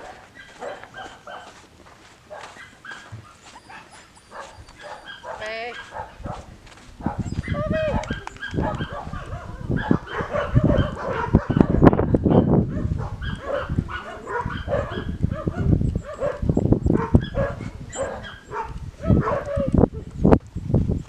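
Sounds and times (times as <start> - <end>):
puppies barking: 0.0 - 1.6, 2.3 - 20.1.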